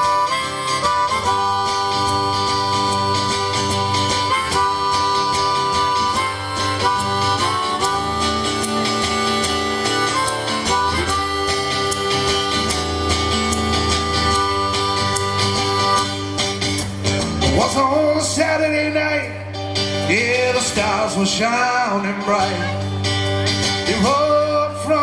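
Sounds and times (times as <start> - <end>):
harmonica melody: 0.0 - 25.0
strummed guitar: 0.0 - 25.0.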